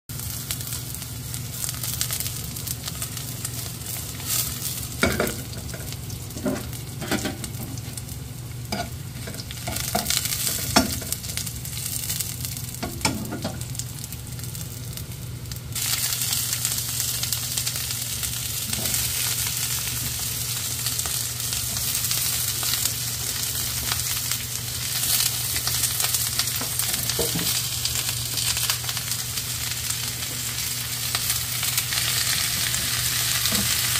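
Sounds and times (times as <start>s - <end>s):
onions sizzling in oil: 0.1s - 33.9s.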